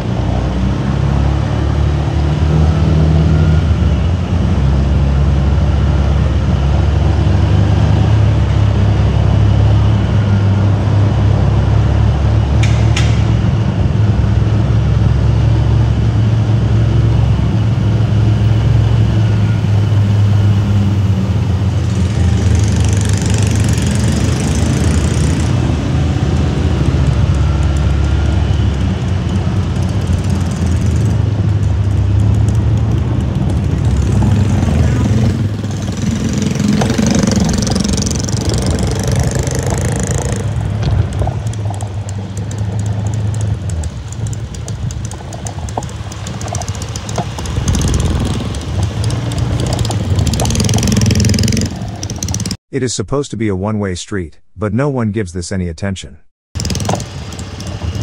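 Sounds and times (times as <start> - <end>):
vehicle engine and road noise: 0.0 - 53.2, 56.6 - 58.0.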